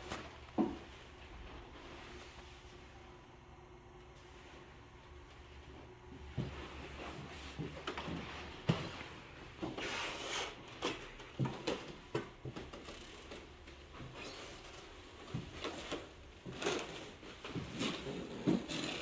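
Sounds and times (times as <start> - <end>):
footsteps on a wooden floor: 0.0 - 2.3, 5.3 - 19.0.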